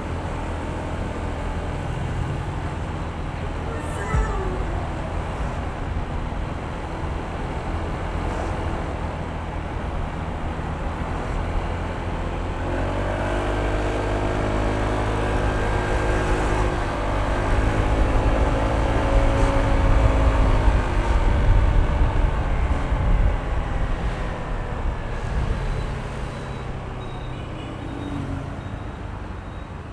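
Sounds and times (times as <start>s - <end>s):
wind and road noise: 0.0s - 29.9s.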